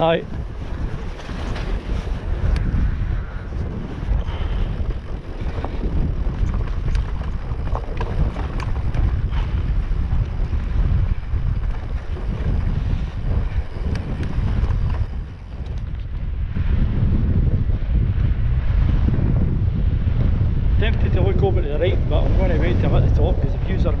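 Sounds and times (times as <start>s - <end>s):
bike tyres clicking on stones: 0.0s - 19.3s
wind rumbling on microphone: 0.0s - 24.0s.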